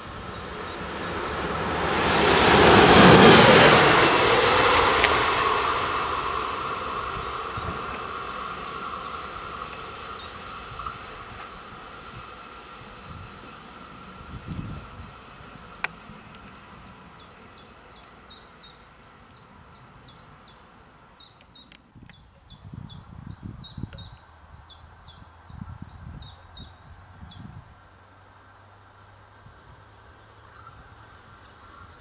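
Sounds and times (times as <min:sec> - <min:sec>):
wind rumbling on microphone: 0:00.0 - 0:18.5, 0:19.3 - 0:28.0.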